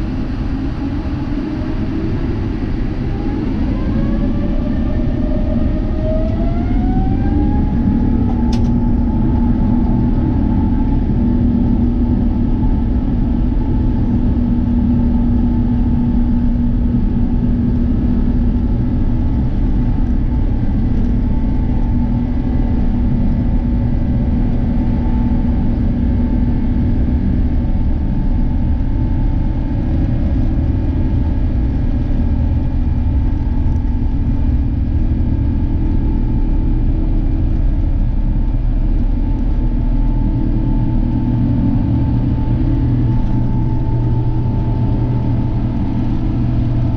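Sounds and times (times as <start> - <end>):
deep rumble of jet engines: 0.0 - 46.9
faint steady hum: 0.0 - 46.9.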